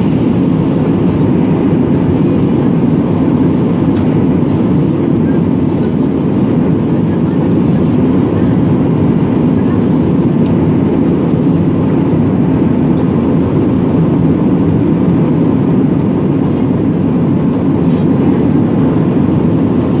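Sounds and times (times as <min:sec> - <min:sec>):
airliner cabin engine rush: 0:00.0 - 0:20.0.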